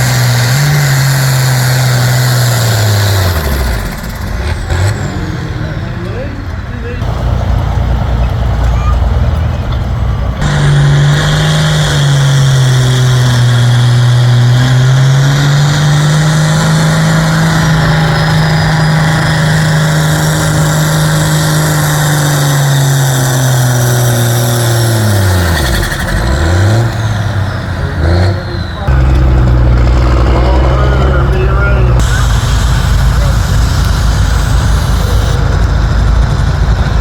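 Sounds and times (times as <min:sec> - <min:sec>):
engine revving hard under load: 0:00.0 - 0:37.0.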